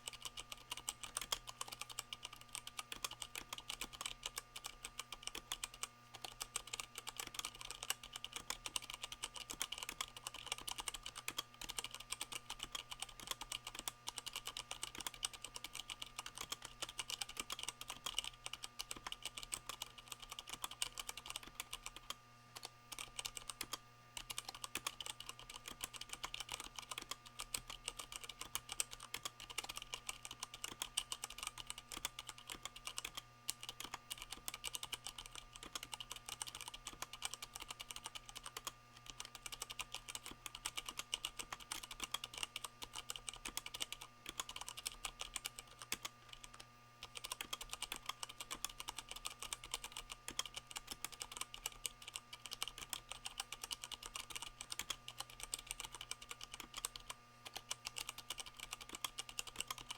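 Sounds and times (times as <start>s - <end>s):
fast typing on mechanical keyboard: 0.0s - 59.9s.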